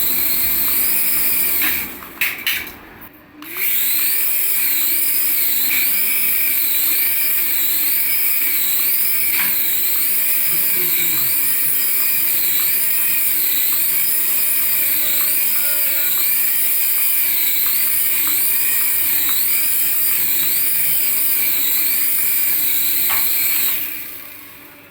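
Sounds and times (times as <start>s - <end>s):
toy speaker hiss with sweep: 3.5s - 24.2s.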